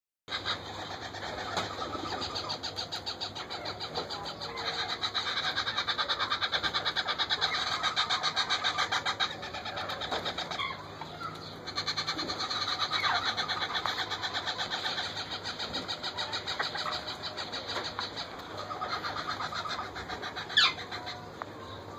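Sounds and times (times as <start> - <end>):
parakeet chicks begging calls: 0.3 - 21.9.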